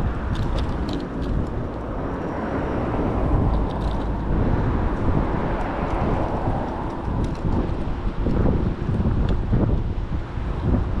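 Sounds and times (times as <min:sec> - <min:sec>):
road noise: 0:00.0 - 0:11.0
wind rumbling on microphone: 0:00.0 - 0:11.0.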